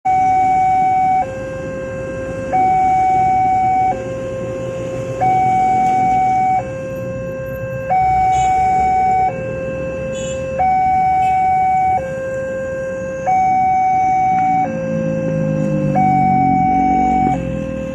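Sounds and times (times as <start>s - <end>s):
level crossing two-tone alarm: 0.1s - 17.9s.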